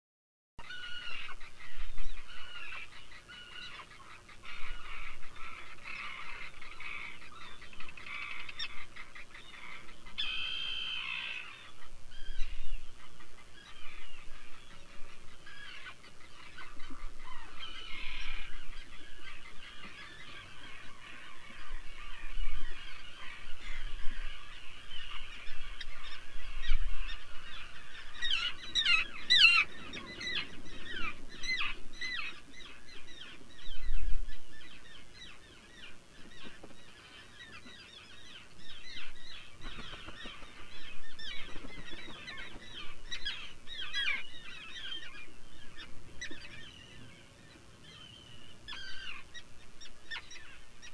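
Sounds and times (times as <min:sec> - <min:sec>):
seabirds chirping: 0:00.6 - 0:50.9.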